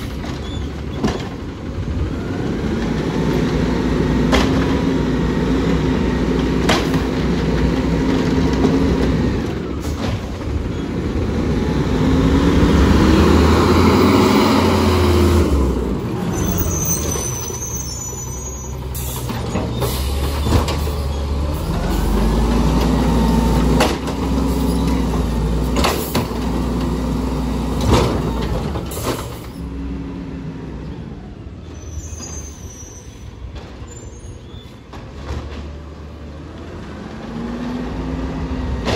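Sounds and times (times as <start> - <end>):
garbage truck diesel engine revving: 0.0 - 31.6, 35.4 - 38.9.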